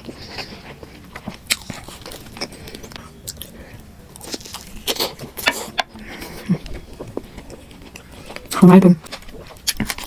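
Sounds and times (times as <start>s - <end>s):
wet chewing and biting: 0.0s - 10.0s.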